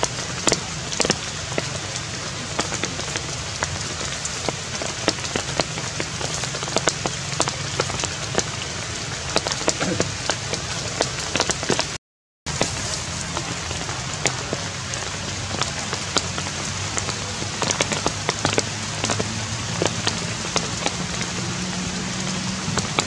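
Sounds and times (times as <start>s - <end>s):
rain pattering on leaves: 0.0s - 23.0s.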